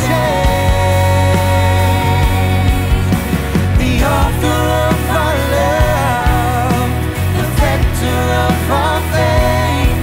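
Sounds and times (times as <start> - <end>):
live band playing: 0.0 - 10.0
person singing: 0.0 - 10.0.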